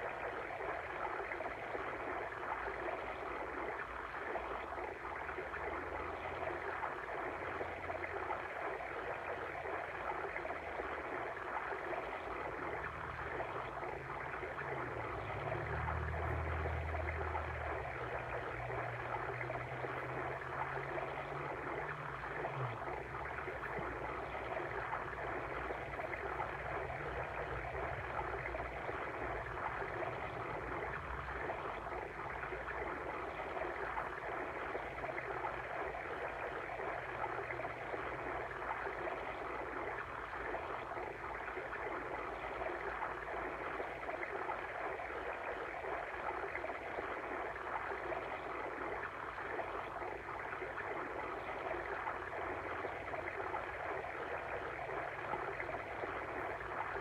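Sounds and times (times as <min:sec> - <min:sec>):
water stream flowing: 0:00.0 - 0:57.0.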